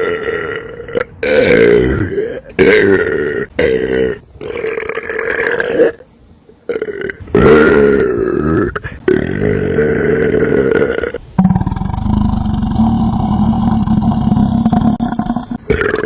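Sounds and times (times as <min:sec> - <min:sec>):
person belching loudly: 0:00.0 - 0:06.0, 0:06.7 - 0:16.0.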